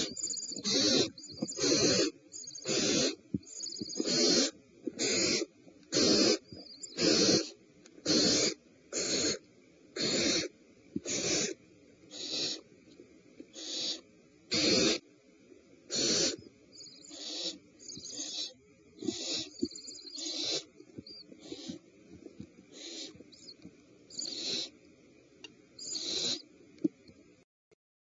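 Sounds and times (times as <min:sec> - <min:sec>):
owl nestlings hissing calls: 0:00.0 - 0:12.7, 0:13.5 - 0:15.1, 0:15.8 - 0:24.9, 0:25.7 - 0:26.5.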